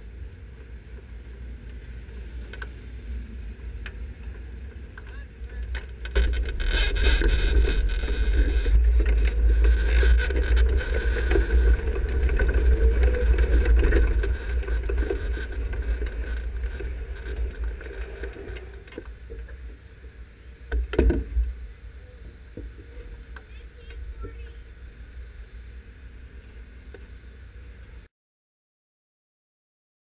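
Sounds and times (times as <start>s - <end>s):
race car engine low rumble: 0.0s - 28.1s.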